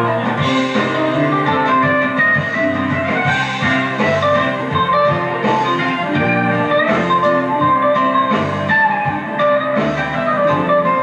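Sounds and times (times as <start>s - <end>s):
electric guitar lead: 0.0s - 11.0s
live band playing: 0.0s - 11.0s.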